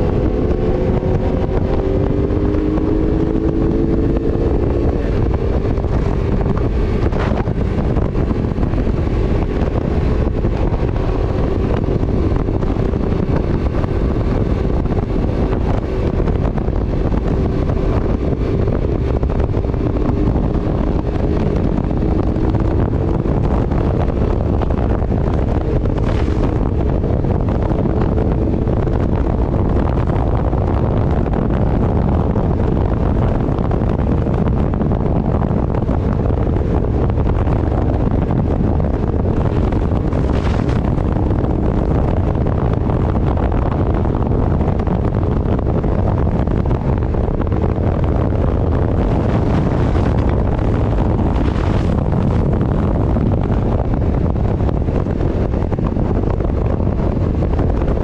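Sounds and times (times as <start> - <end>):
vehicle running noise: 0.0 - 58.0
wind buffeting microphone: 0.0 - 58.0.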